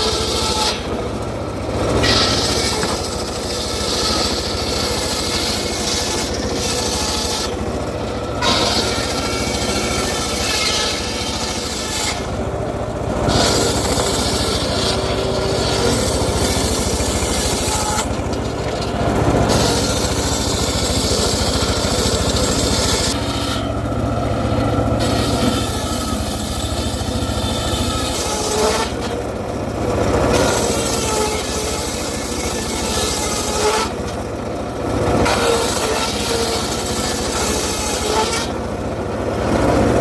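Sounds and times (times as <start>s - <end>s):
low motor hum: 0.0s - 40.0s
power saw cutting wood: 0.0s - 40.0s.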